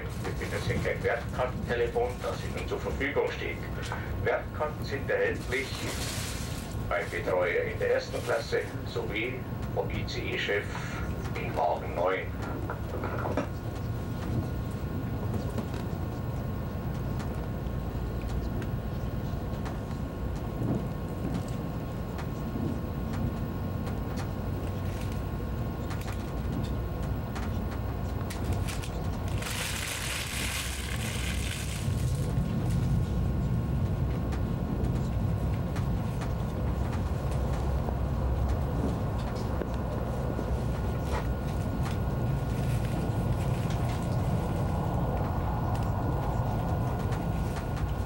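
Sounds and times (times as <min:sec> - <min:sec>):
faint steady whine: 0:00.0 - 0:48.0
train cabin low rumble: 0:00.0 - 0:48.0.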